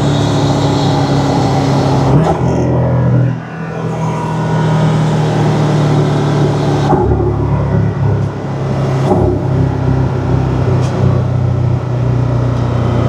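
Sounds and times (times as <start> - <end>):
turbocharged car engine running: 0.0 - 13.0.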